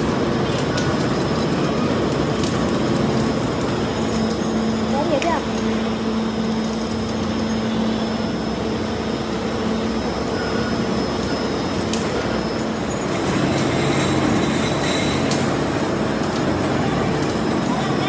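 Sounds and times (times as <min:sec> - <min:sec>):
factory machinery din: 0:00.0 - 0:18.0.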